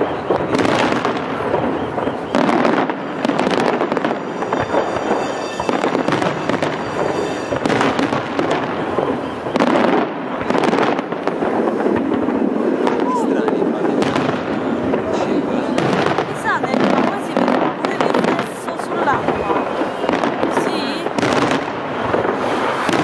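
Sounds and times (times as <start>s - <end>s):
fireworks popping and banging: 0.0s - 23.0s.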